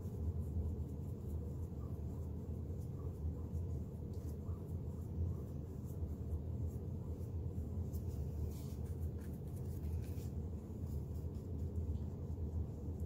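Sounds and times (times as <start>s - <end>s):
low background hum: 0.0s - 13.0s
paintbrush strokes on canvas: 0.0s - 13.0s.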